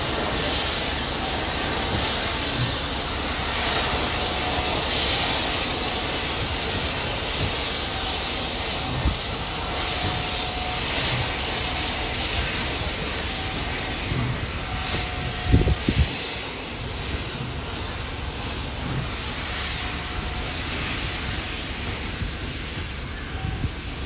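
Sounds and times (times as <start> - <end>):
steam locomotive hissing rumble: 0.0 - 24.0.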